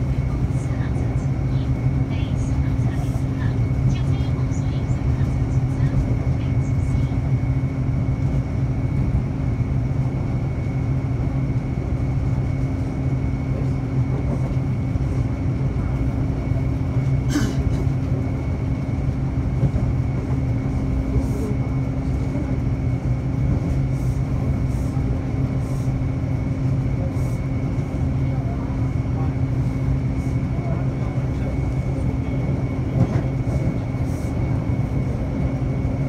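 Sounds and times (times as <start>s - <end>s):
electric train rumbling on track: 0.0s - 36.0s.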